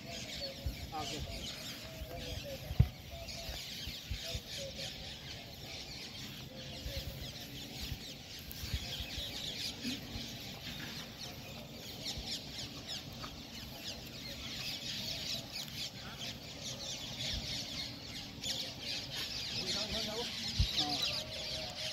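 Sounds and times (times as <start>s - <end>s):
birds chattering and chirping: 0.0s - 21.9s.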